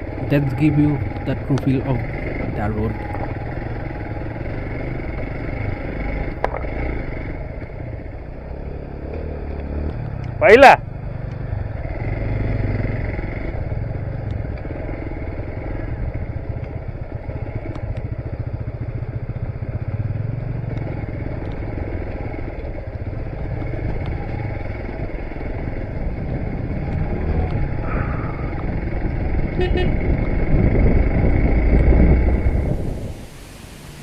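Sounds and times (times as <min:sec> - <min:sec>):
motorcycle engine running: 0:00.0 - 0:33.2.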